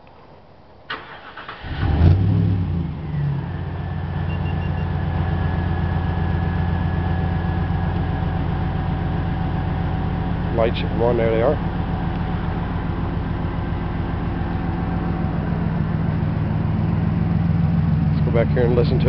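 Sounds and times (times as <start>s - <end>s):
pickup truck engine starting and idling: 0.9s - 19.0s.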